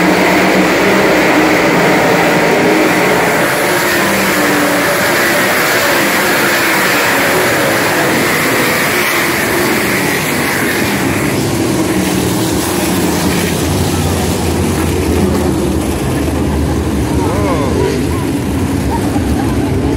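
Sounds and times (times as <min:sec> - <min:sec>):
racing car engines: 0:00.0 - 0:19.9.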